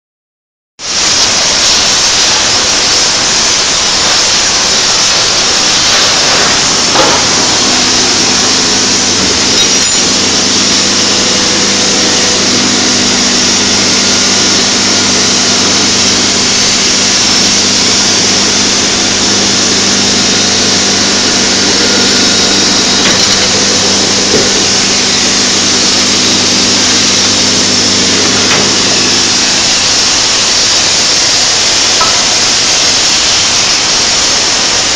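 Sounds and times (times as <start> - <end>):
gas torches hissing: 0.8 - 34.9
low machine hum: 1.9 - 33.0.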